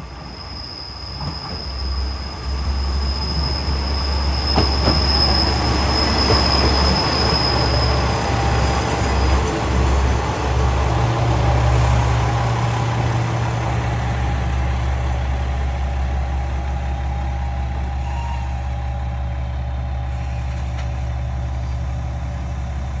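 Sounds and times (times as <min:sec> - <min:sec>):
train rumble and hum: 0:00.0 - 0:23.0.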